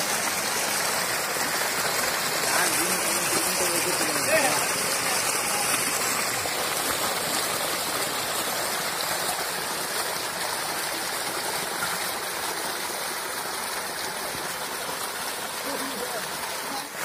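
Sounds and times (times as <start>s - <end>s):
stream water gushing over stones: 0.0s - 17.0s.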